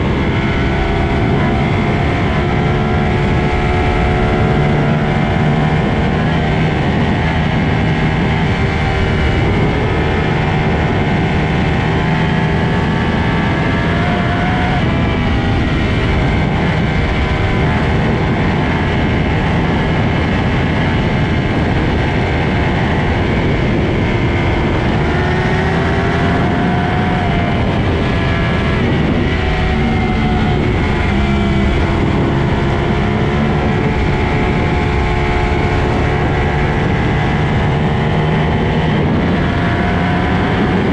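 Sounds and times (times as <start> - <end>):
motorcycle engines at high revs: 0.0 - 40.9
rush of noise: 0.0 - 40.9.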